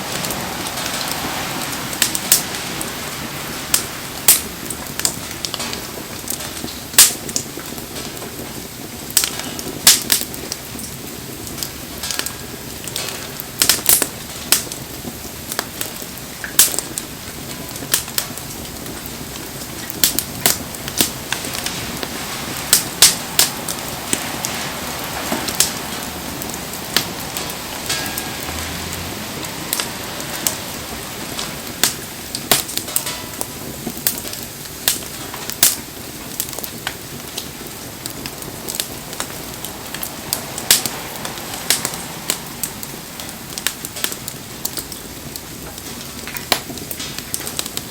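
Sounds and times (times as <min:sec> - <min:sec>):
campfire crackling and popping: 0:00.0 - 0:47.9
rain falling: 0:00.0 - 0:47.9.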